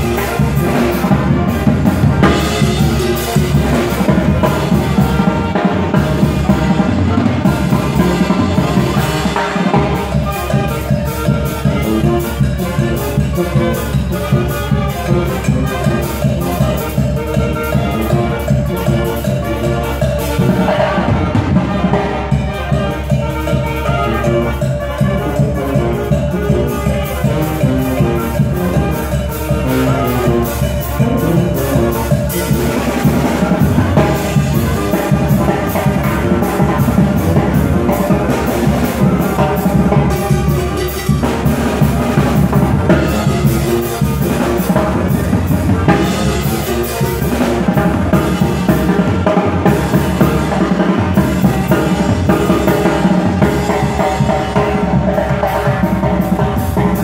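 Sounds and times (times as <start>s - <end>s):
brass band dance music: 0.0s - 57.0s
sousaphone bass line: 0.0s - 57.0s
steady drumbeat: 0.0s - 57.0s.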